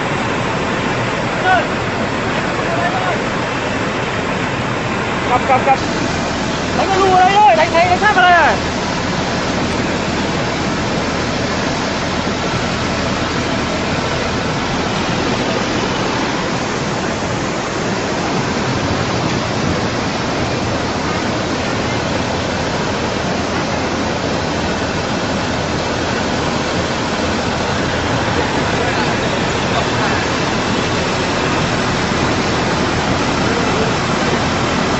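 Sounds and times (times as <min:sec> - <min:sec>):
floodwater rushing: 0:00.0 - 0:34.9.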